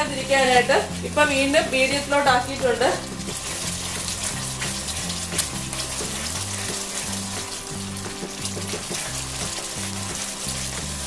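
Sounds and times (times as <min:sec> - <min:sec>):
background music with bass line: 0:00.0 - 0:11.0
sauce bubbling and sizzling: 0:00.0 - 0:11.0
sharp crackles: 0:00.4 - 0:11.0.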